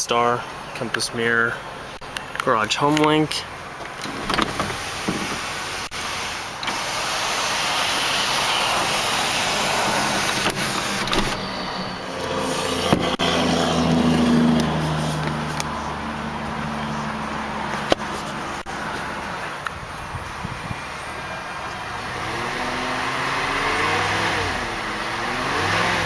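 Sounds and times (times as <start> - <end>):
car engine starting and idling: 0.0 - 26.0.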